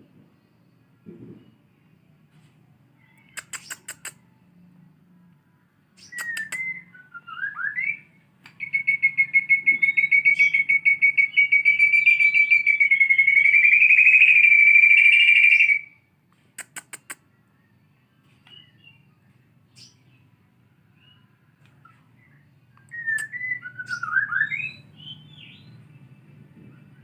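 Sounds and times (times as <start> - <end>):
songbird singing with trills: 2.9 - 4.9, 5.7 - 16.2, 16.9 - 27.0.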